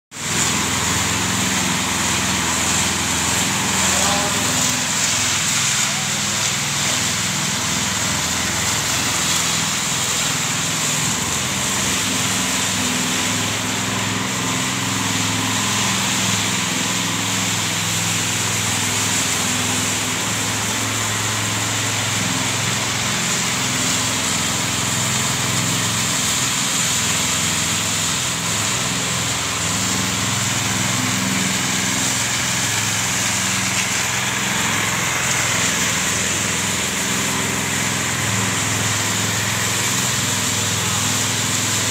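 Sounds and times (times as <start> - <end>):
power trowel engine running: 0.1 - 41.9.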